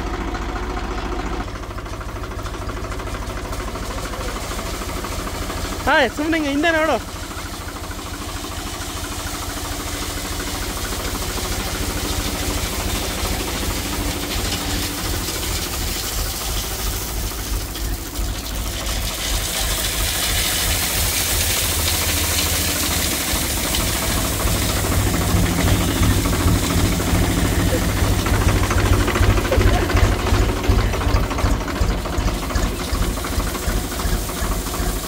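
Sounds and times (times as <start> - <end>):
diesel tractor engine running: 0.0 - 35.0.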